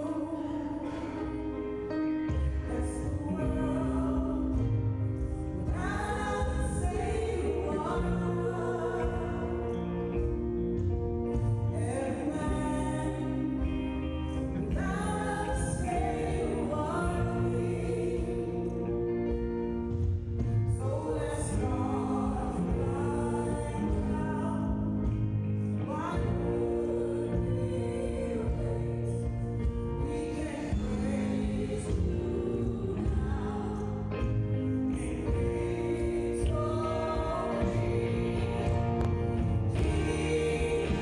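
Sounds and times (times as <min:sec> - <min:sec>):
band accompaniment with bass: 0:00.0 - 0:41.0
woman singing gospel song: 0:00.0 - 0:41.0.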